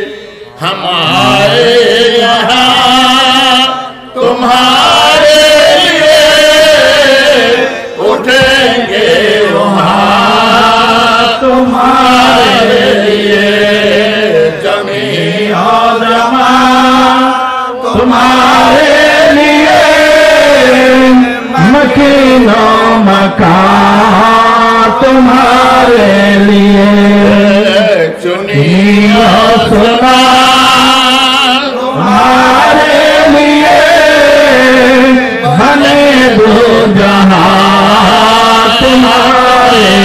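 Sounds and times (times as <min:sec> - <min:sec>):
men chanting a devotional song: 0:00.0 - 0:40.0.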